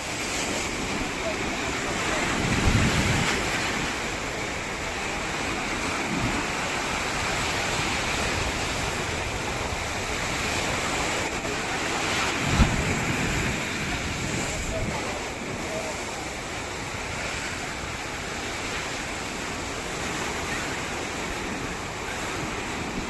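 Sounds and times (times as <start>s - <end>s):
ocean waves breaking: 0.0s - 23.0s
wind buffeting microphone: 0.0s - 23.0s.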